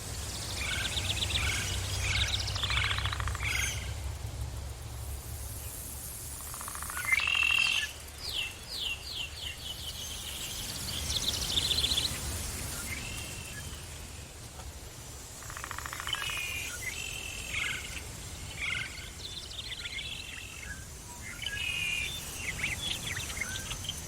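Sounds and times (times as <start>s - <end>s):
forest birds calling and singing: 0.0s - 4.1s, 5.5s - 14.2s, 15.4s - 24.0s.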